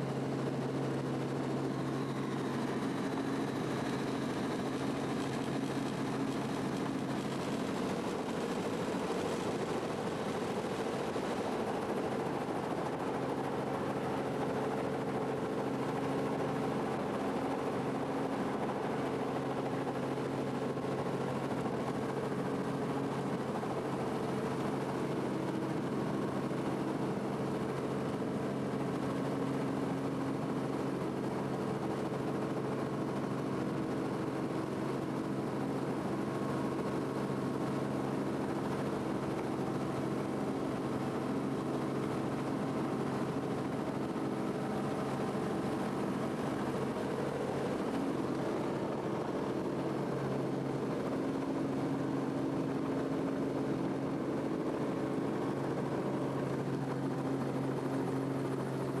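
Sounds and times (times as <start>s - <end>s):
helicopter cabin drone: 0.0s - 59.0s.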